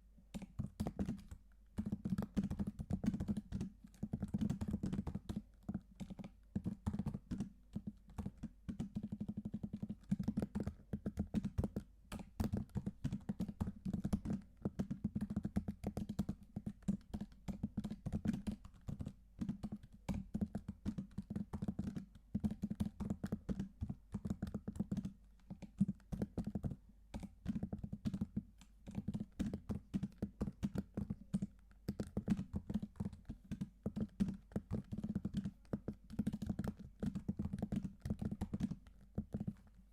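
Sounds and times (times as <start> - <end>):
fast typing on keyboard: 0.3 - 39.9.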